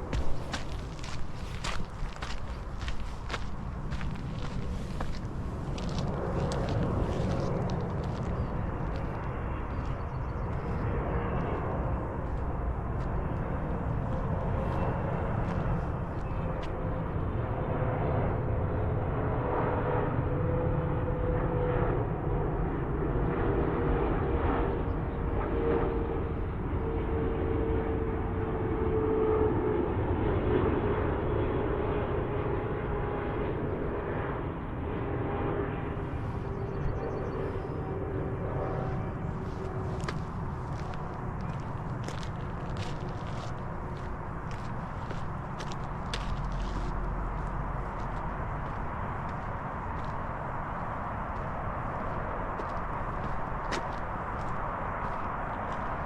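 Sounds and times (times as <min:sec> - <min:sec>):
airliner engines roaring: 0:00.0 - 0:56.0.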